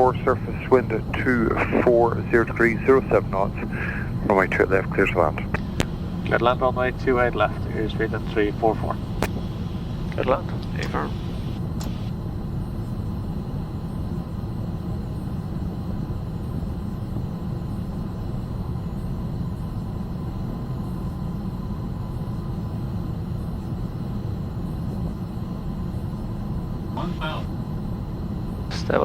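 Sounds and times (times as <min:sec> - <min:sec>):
cockpit airflow and engine rumble: 0:00.0 - 0:29.0.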